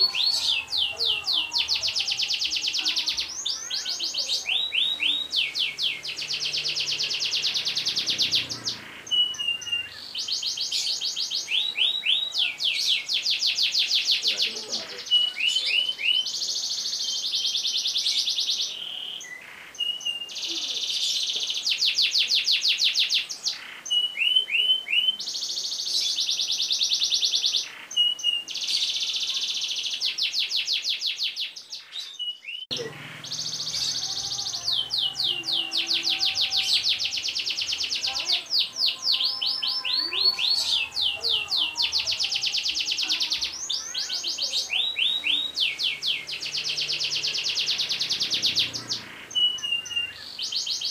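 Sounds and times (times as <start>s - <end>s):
canary trilling: 0.0s - 50.9s.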